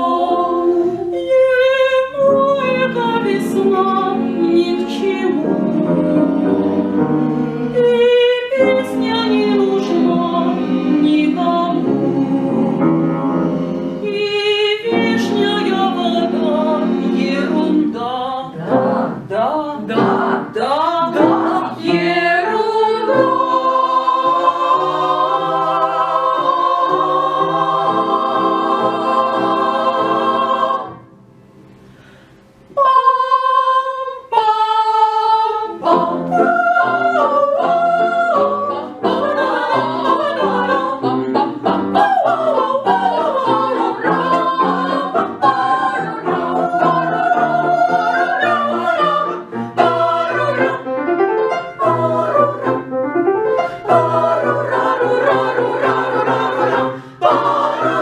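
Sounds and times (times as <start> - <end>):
vocal ensemble singing: 0.0 - 58.0.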